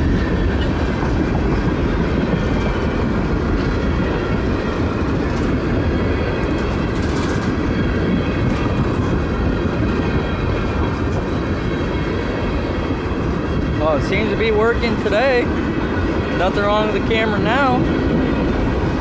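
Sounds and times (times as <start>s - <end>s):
steel wheels rumbling on rail: 0.0s - 19.0s
wheels clacking over rail joints: 0.0s - 19.0s.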